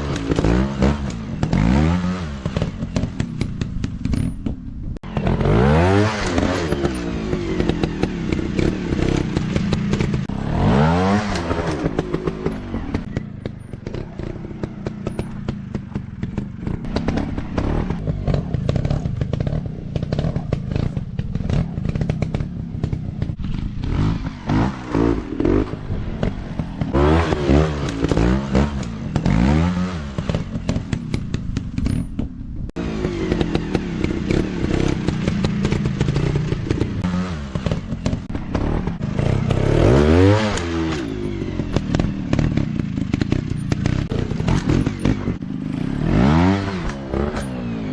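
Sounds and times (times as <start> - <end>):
dirt bike engines revving: 0.0 - 4.3, 5.0 - 32.0, 32.7 - 47.9
bikes clattering and knocking: 0.0 - 47.9.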